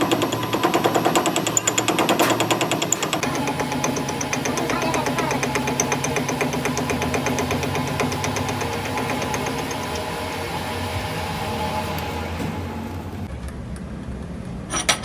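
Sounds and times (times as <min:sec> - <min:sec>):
metal lathe running: 0:00.0 - 0:13.3.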